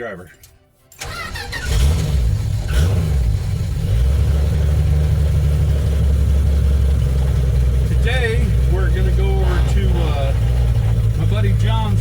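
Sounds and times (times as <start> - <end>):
car engine idling: 1.0 - 12.0.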